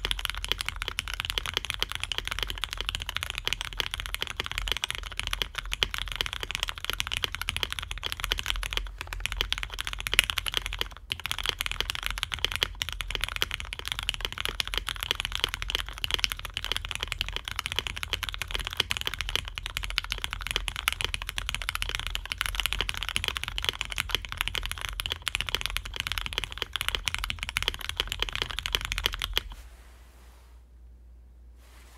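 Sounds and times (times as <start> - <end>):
typing on mechanical keyboard: 0.0 - 29.6.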